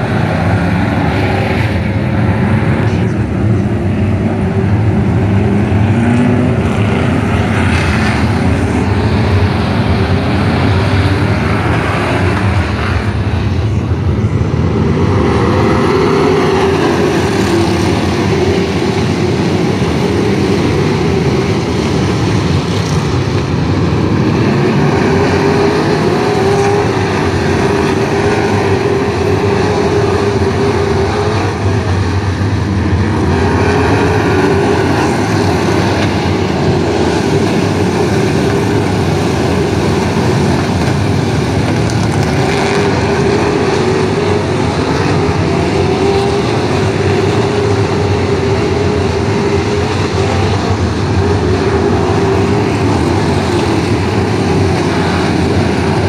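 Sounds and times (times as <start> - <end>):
race car engines: 0.0 - 56.0.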